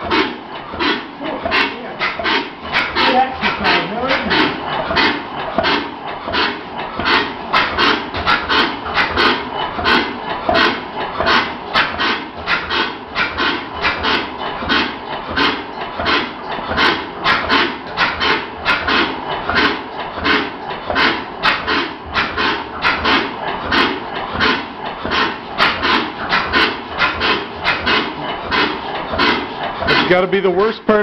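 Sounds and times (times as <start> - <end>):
engine hissing puffs: 0.0 - 31.0.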